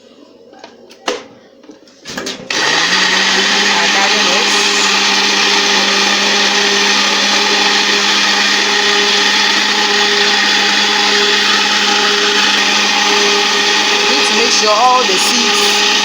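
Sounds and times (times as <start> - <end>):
electric blender running: 2.5 - 16.0.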